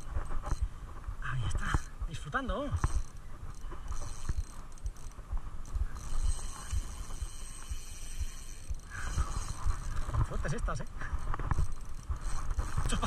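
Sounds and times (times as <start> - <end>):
fishing reel cranking: 0.0 - 13.0
steady high hiss: 0.0 - 13.0.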